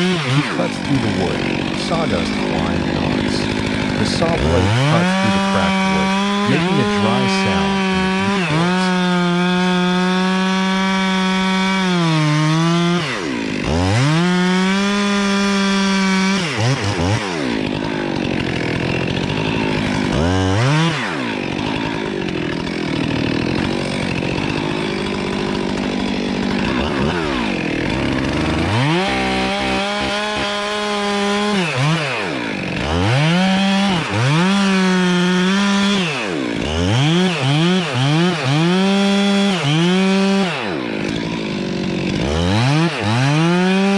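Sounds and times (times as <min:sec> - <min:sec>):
chainsaw cutting wood: 0:00.0 - 0:43.9
chainsaw revving: 0:00.0 - 0:43.9.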